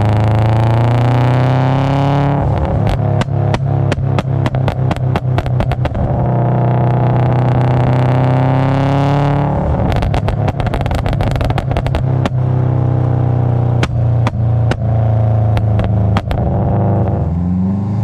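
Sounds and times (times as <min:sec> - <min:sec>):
exhaust pops and crackles: 0:00.0 - 0:17.2
car engine at high revs: 0:00.0 - 0:18.0.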